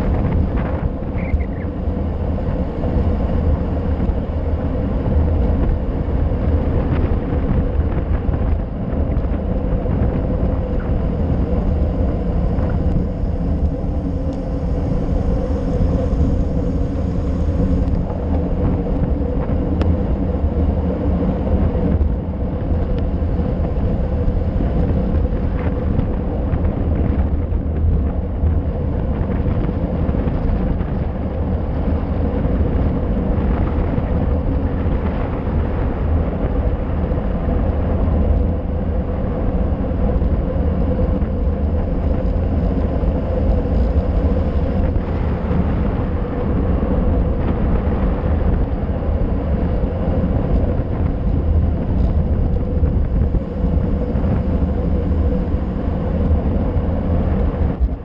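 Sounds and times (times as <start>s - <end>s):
tyres rumbling on asphalt: 0.0s - 58.0s
wind on microphone: 0.0s - 58.0s.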